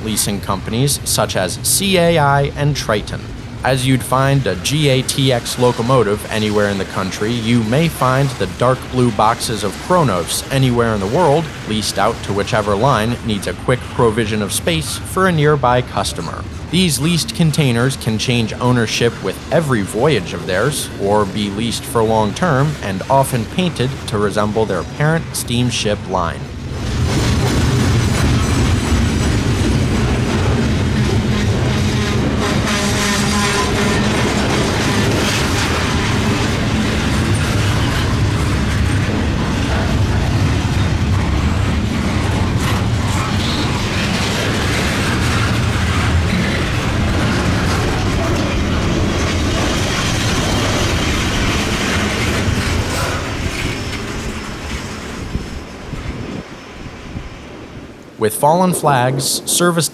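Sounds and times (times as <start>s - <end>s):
freight train wheels clattering on rail: 2.3s - 15.1s, 16.2s - 25.4s, 26.0s - 58.2s.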